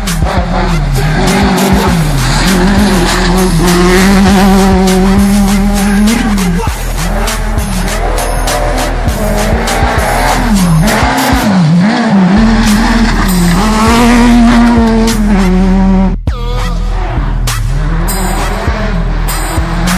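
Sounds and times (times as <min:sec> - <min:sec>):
rally car engine revving: 0:00.0 - 0:19.9.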